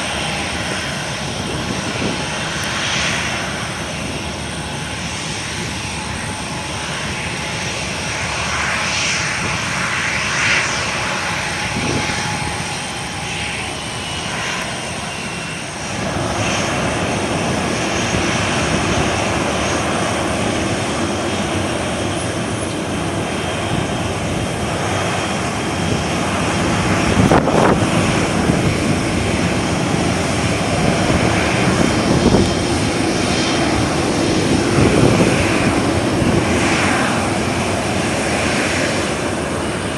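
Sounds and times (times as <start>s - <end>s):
jet airliner engines running: 0.0s - 39.9s.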